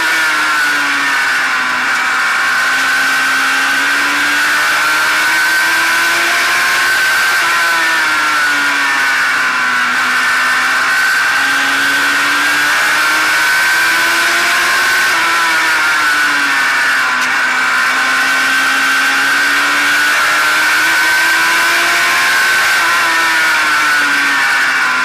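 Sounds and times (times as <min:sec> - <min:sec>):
race car engine: 0:00.0 - 0:25.0.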